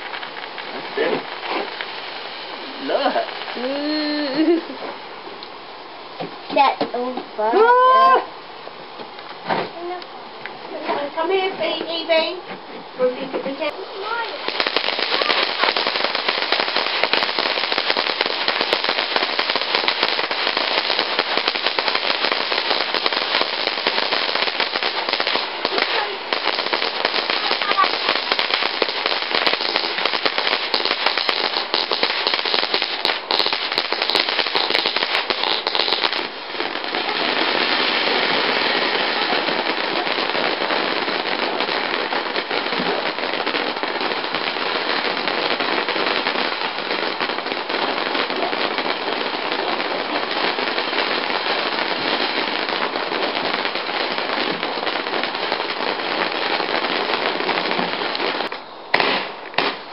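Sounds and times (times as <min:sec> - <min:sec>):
sparklers fizzing and crackling: 0:00.0 - 0:08.2, 0:09.0 - 0:59.9.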